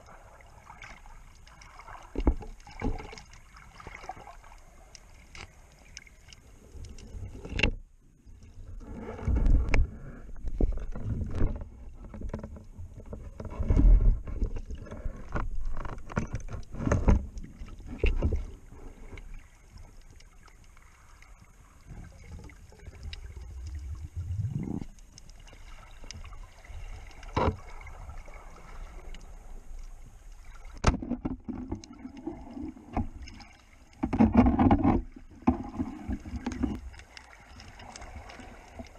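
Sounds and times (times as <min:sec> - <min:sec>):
underwater water surges: 0:00.0 - 0:12.3, 0:16.8 - 0:38.9.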